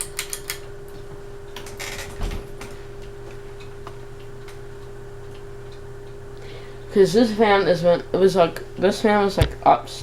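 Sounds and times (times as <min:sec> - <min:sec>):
ceiling fan motor hum: 0:00.0 - 0:10.0.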